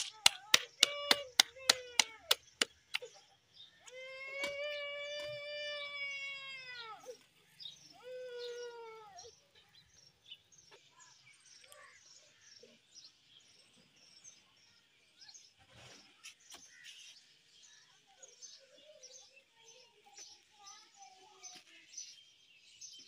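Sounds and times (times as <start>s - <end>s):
faint small birds chirping: 0.0s - 23.0s.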